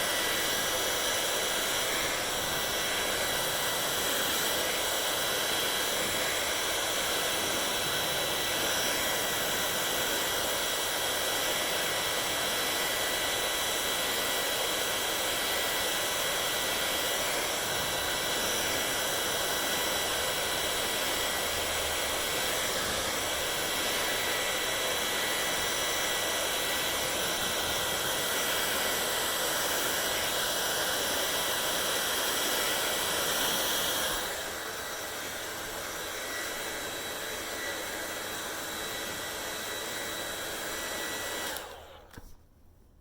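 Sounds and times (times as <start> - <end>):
hair dryer blowing: 0.0 - 42.4.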